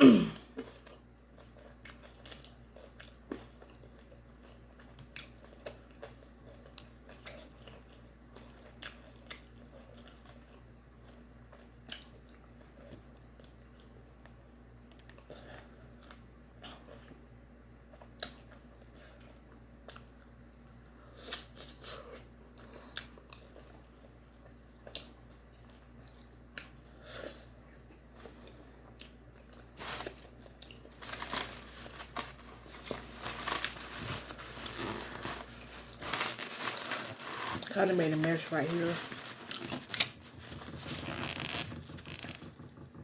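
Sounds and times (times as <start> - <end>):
person chewing crunchy food: 0.4 - 14.0, 14.9 - 37.8, 38.8 - 42.4.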